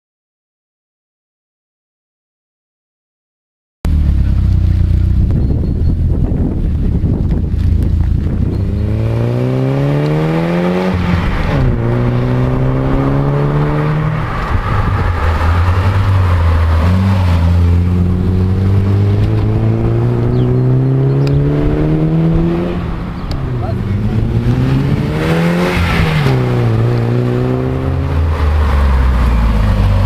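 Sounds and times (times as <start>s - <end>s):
car engine accelerating hard: 3.9s - 30.0s.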